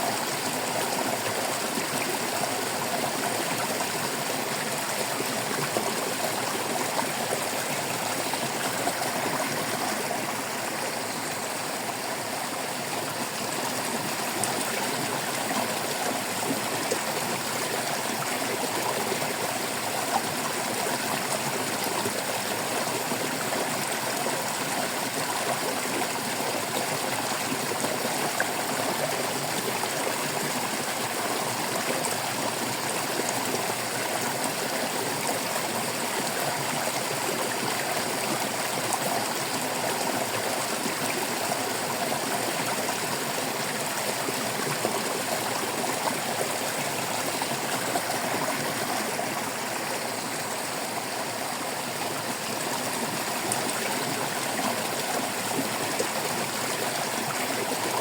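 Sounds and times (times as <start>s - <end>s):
stream water babbling over stones: 0.0s - 58.0s.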